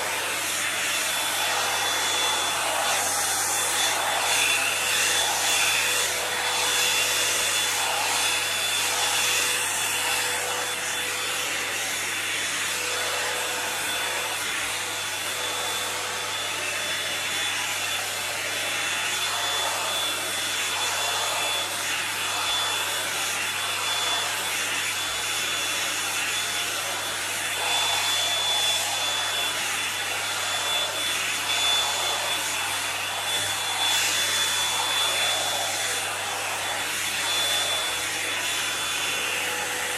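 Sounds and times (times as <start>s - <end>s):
hot-air brush blowing: 0.0s - 39.9s.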